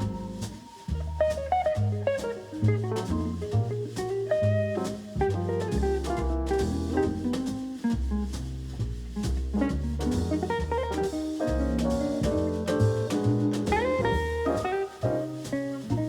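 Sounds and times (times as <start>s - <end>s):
drum kit: 0.0s - 16.0s
jazz guitar: 0.0s - 16.0s
walking bass: 0.0s - 16.0s.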